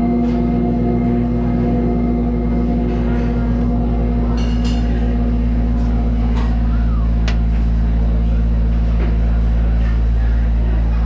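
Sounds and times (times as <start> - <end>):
band playing low amplified drone: 0.0 - 11.0.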